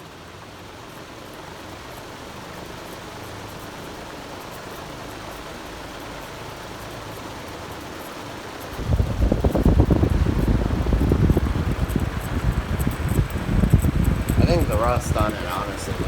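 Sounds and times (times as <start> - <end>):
ceiling fan moving air: 0.0 - 16.0.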